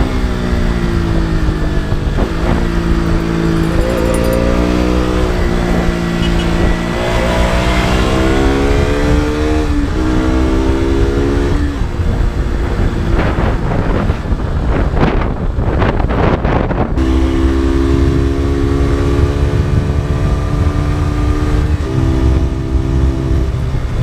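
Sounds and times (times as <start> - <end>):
motorcycle engine accelerating: 0.0 - 15.2, 17.0 - 24.0
wind rush on microphone: 0.0 - 24.0.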